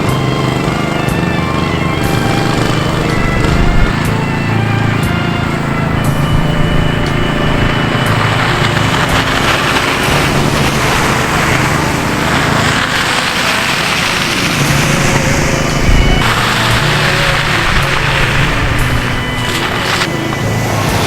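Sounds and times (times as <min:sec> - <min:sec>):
engine running under load: 0:00.0 - 0:21.0.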